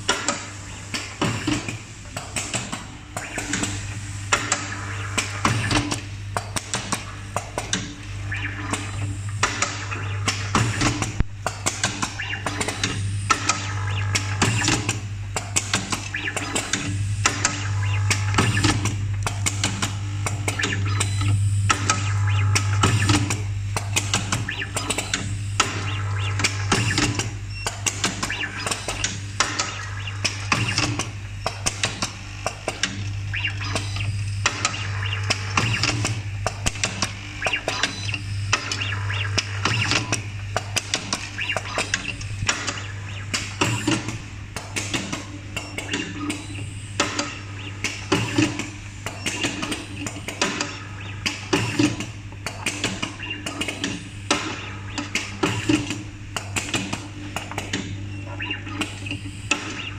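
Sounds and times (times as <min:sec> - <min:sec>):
pneumatic machine clicks and clacks: 0:00.0 - 0:59.9.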